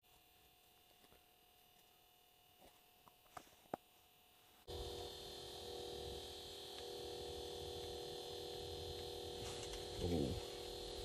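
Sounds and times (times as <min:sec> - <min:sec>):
buzzing hum with fixed tones: 0:00.1 - 0:11.0.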